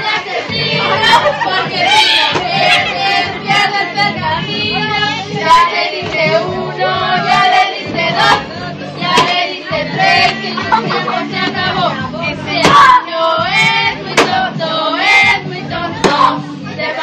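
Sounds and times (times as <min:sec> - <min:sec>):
children and women singing: 0:00.0 - 0:17.0
music: 0:00.0 - 0:17.0.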